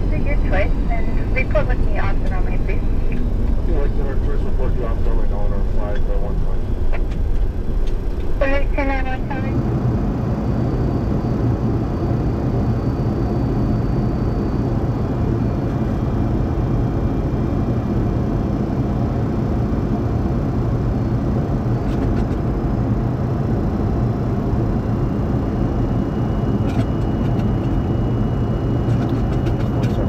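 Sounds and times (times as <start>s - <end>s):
jet engines and rushing air: 0.0s - 30.0s.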